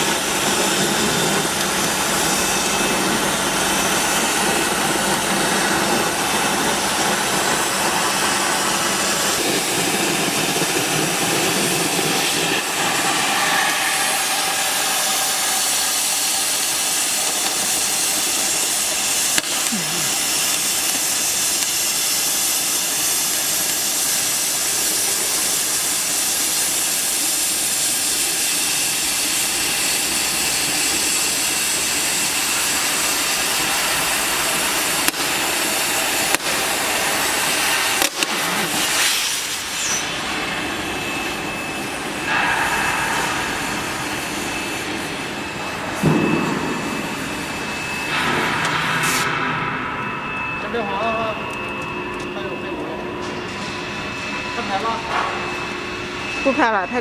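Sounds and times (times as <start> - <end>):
cutting torch gas hiss: 0.0 - 57.0.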